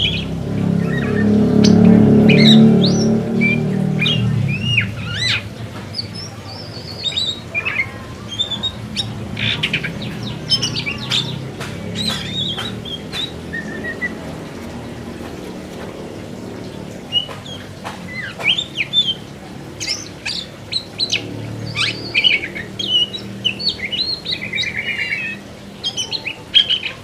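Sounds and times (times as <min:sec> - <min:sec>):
bird singing whistles and trills: 0:00.0 - 0:14.4, 0:17.1 - 0:27.0.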